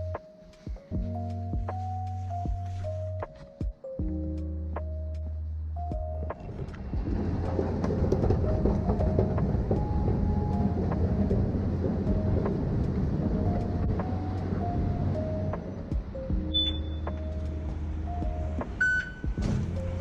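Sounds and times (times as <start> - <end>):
background music with bass: 0.0 - 20.0
vehicle rumbling: 0.0 - 20.0.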